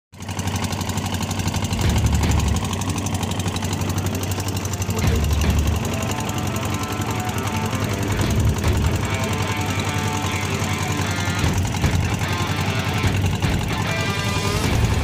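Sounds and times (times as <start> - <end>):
boat engine knocking: 0.2 - 15.0.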